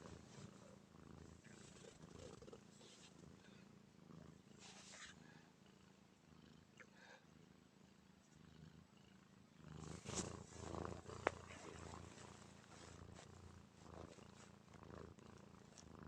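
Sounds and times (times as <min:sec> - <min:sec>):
cat snoring softly: 0:00.0 - 0:16.0.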